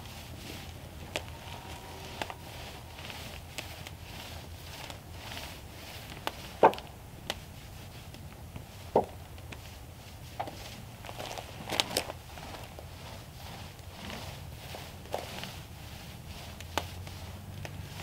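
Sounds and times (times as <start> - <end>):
brush swishing on wood: 0.0 - 18.0.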